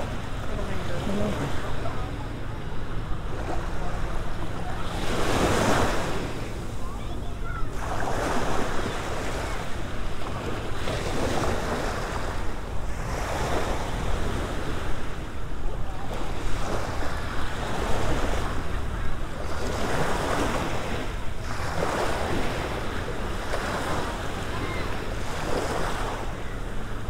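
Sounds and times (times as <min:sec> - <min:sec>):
small waves breaking on shore: 0:00.0 - 0:27.0.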